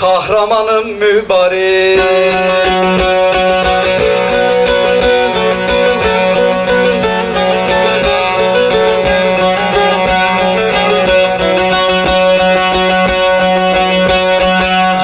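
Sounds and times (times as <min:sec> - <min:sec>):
plucked string melody: 0:01.8 - 0:15.0.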